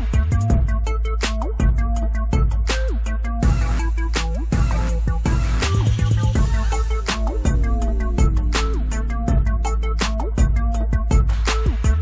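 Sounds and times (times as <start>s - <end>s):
electronic music with synth and bass: 0.0s - 12.0s.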